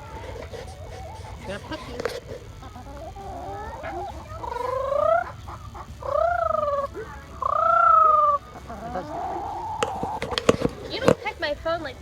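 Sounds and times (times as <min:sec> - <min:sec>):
fowl calling: 0:00.0 - 0:11.4.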